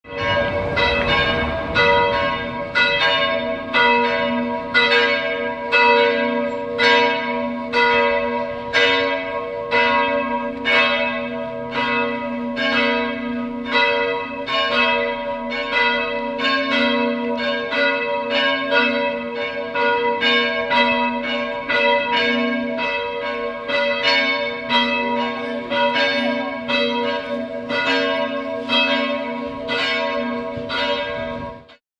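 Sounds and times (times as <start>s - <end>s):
church bells pealing: 0.0s - 31.8s.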